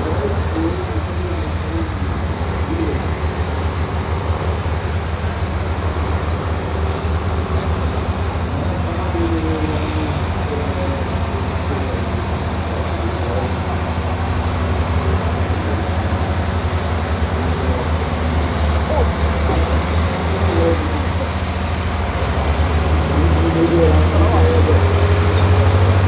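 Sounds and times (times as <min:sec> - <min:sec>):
engine running low rumble: 0:00.0 - 0:26.0.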